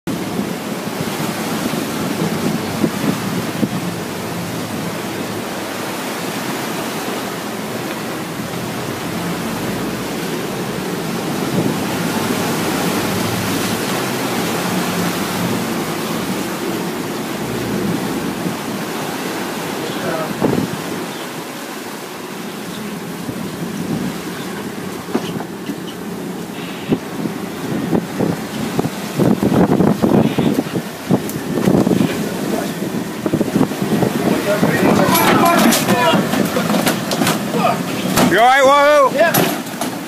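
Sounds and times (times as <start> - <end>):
wind and sea rushing: 0.0 - 40.0
wind buffeting microphone: 0.1 - 38.6.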